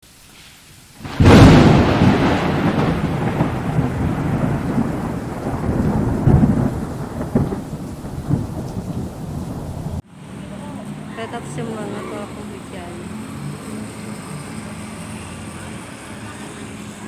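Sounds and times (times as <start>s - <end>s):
steady rain: 0.0s - 17.0s
thunder rumbling: 1.0s - 17.0s.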